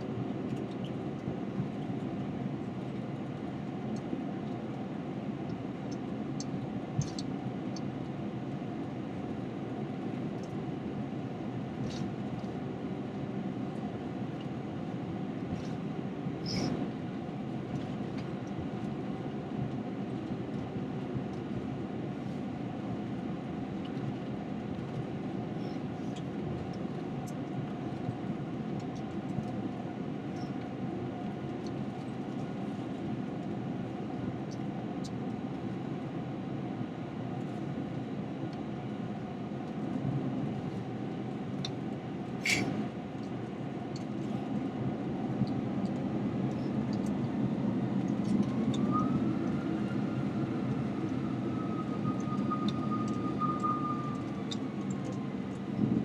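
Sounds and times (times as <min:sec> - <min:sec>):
aircraft engine hum: 0:00.0 - 0:56.0.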